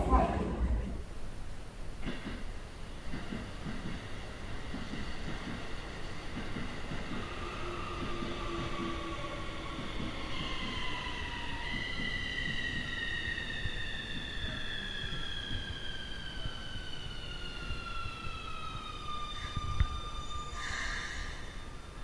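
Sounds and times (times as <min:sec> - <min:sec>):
train wheels rumbling on rails: 0:02.0 - 0:22.0.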